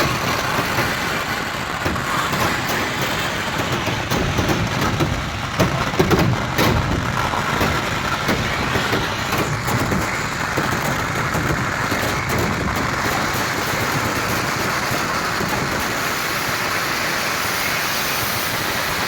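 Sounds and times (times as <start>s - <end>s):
fireworks crackling pops: 0.0s - 19.0s
fireworks rumbling roar: 0.0s - 19.0s
sharp firework cracks: 0.0s - 19.0s.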